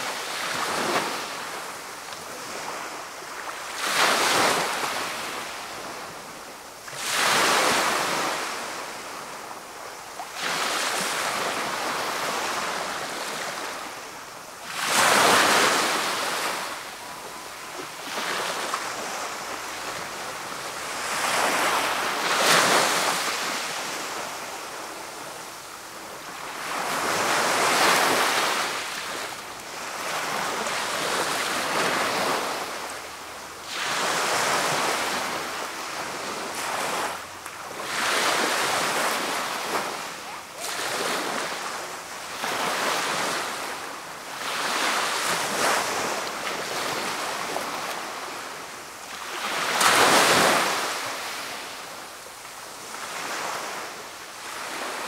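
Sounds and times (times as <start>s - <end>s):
waves washing up shingle beach: 0.0s - 55.0s.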